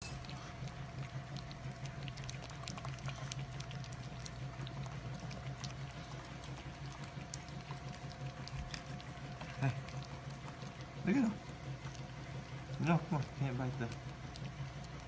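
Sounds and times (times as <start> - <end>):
puppies lapping wet food: 0.1 - 15.0.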